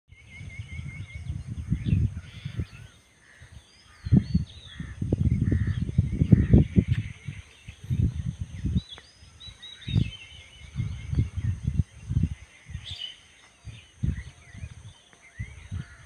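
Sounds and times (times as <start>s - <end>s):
small birds chirping: 0.1s - 16.0s
wind buffeting microphone: 0.1s - 16.0s.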